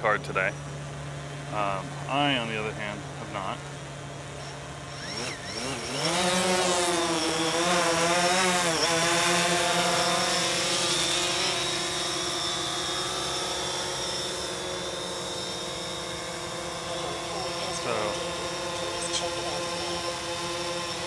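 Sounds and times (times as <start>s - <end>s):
drone motors and propellers: 0.0s - 21.0s.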